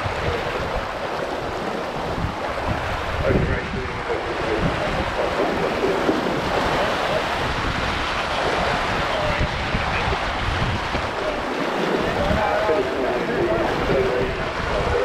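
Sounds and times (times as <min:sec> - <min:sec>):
water rushing along boat hull: 0:00.0 - 0:15.0
wind noise on microphone: 0:00.0 - 0:15.0.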